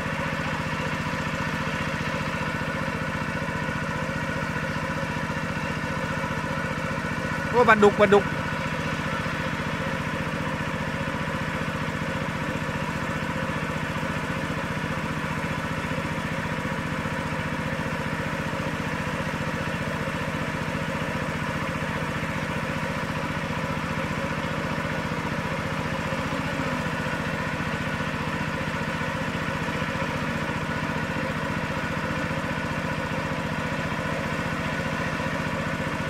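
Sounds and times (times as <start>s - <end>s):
small engine running steadily: 0.0s - 36.0s.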